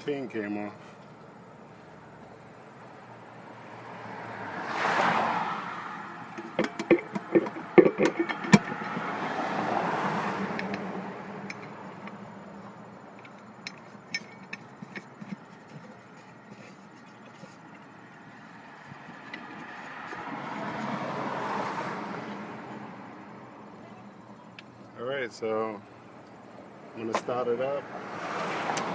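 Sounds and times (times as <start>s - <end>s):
cars passing: 0.0s - 28.9s.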